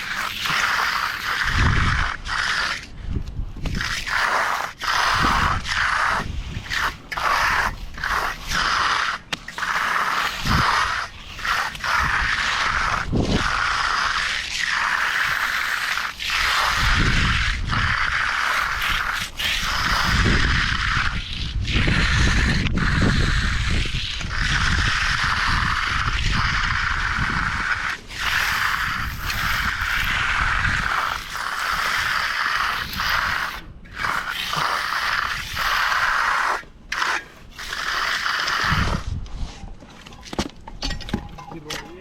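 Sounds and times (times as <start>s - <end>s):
hand tool scraping concrete: 0.0s - 42.0s.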